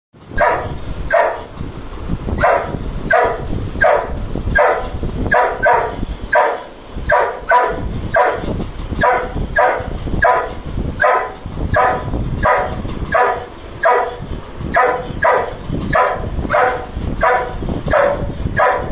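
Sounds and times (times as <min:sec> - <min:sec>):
dog barking: 0:00.4 - 0:01.5, 0:02.4 - 0:08.4, 0:09.0 - 0:14.2, 0:14.8 - 0:18.9.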